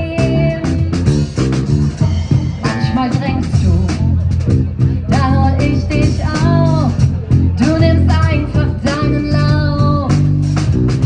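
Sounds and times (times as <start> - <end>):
band playing: 0.0 - 11.0.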